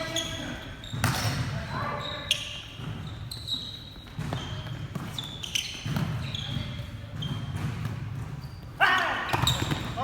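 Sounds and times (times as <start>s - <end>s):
sneakers squeaking on floor: 0.0s - 10.0s.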